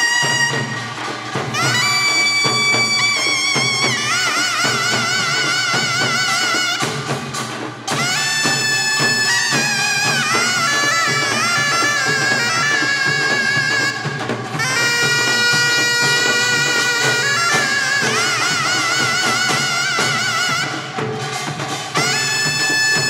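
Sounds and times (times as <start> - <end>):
double-reed shawm melody: 0.0 - 23.0.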